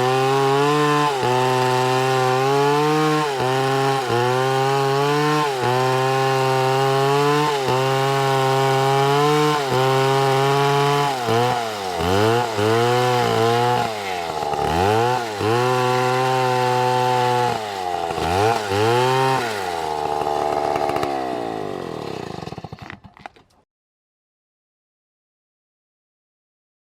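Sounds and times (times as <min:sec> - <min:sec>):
chainsaw cutting wood: 0:00.0 - 0:23.6.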